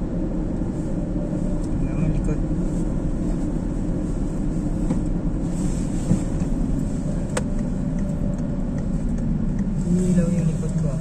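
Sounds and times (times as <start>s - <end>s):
engine and road rumble in car: 0.0s - 11.0s.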